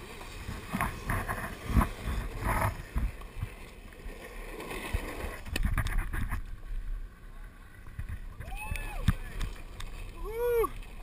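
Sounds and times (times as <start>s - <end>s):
longboard wheels rolling on asphalt: 0.0s - 11.0s.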